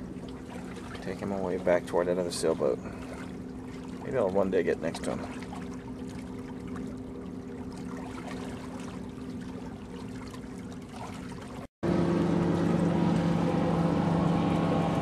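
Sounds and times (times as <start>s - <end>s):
steady low hum: 0.0s - 15.0s
water washing along hull: 0.0s - 15.0s.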